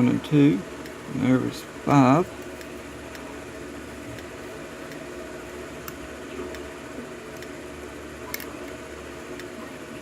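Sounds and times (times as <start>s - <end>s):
background hum and hiss: 0.0s - 10.0s.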